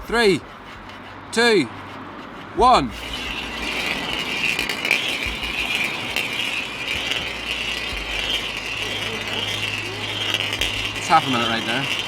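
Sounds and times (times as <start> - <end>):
marble rolling and rattling: 0.0 - 12.0.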